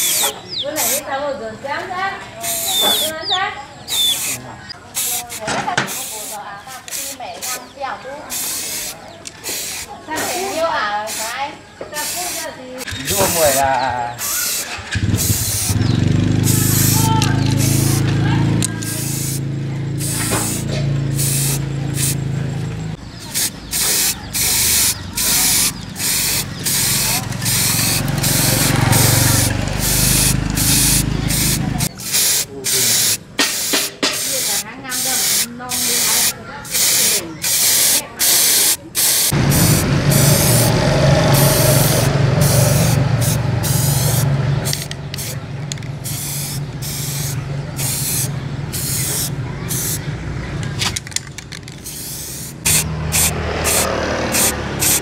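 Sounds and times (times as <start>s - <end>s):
spray paint hissing: 0.0s - 1.1s, 2.4s - 22.3s, 23.0s - 50.0s, 50.8s - 55.0s.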